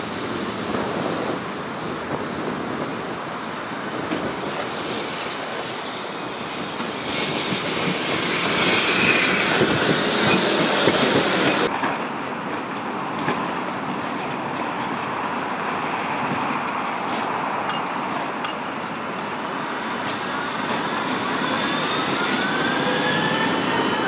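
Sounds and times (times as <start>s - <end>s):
high hiss from wheels and rails: 0.0s - 11.7s, 15.2s - 24.0s
tram wheels rumbling on rails: 0.0s - 24.0s.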